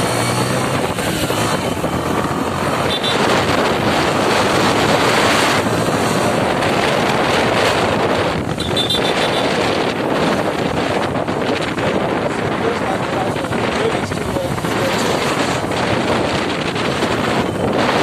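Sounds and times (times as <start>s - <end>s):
moving vehicle rushing noise: 0.0s - 18.0s
wind buffeting microphone: 0.0s - 18.0s.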